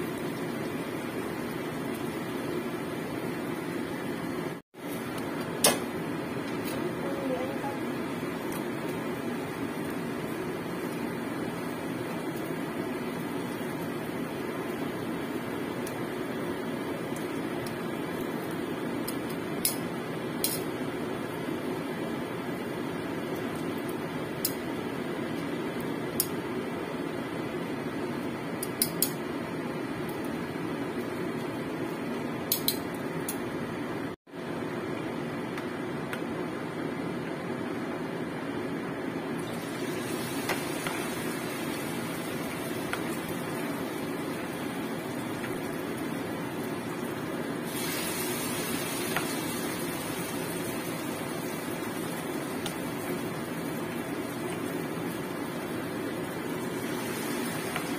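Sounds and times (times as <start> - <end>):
hot oil sizzling in a frying pan: 0.0 - 5.8, 6.6 - 33.5, 39.4 - 57.9.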